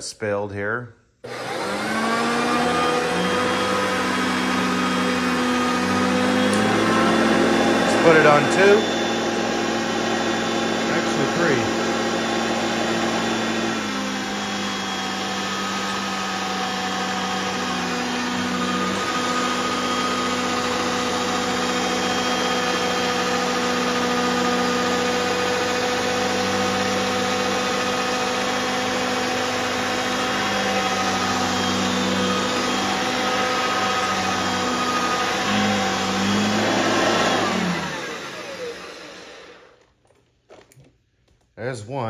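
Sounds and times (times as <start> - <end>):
vacuum cleaner motor hum: 1.2 - 40.9.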